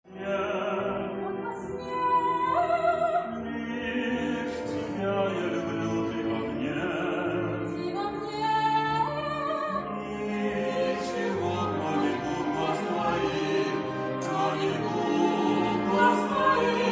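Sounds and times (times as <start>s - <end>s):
instrumental accompaniment: 0.1s - 16.9s
person singing operatically: 0.1s - 16.9s.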